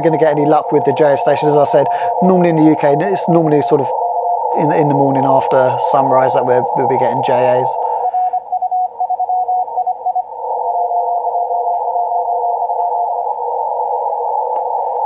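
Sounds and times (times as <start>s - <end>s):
radio band noise hiss: 0.0s - 8.5s, 11.3s - 15.0s
fainter lower morse signal: 0.0s - 15.0s
morse code beeps: 0.0s - 15.0s.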